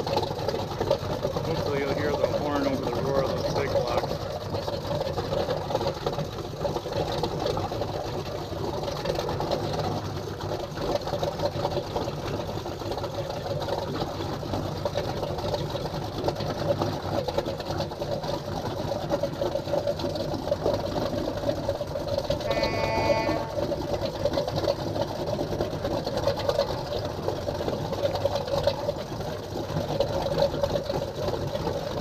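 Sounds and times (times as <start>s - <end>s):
motorboat engines idling: 0.0s - 32.0s.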